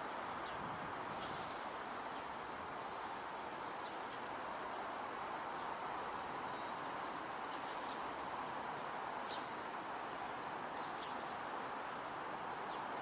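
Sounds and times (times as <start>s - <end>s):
background hiss: 0.0s - 13.0s
sparrows chirping: 0.3s - 5.8s, 6.4s - 9.8s, 10.4s - 12.0s.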